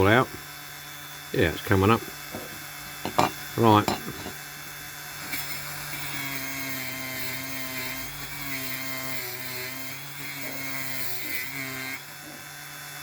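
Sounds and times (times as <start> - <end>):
rotary tool grinding metal: 0.0 - 13.0.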